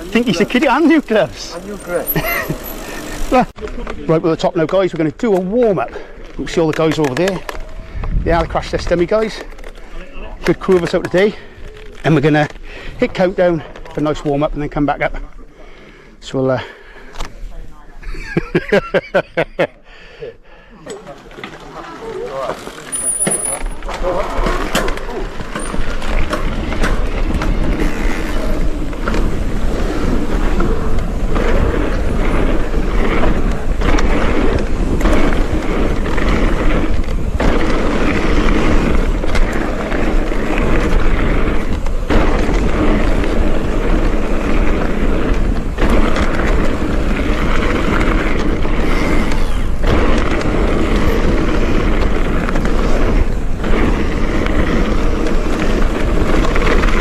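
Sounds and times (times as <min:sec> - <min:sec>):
tyre roar on dirt: 0:00.0 - 0:14.8, 0:20.8 - 0:57.0
bike rattling over bumps: 0:00.0 - 0:15.2, 0:20.8 - 0:57.0.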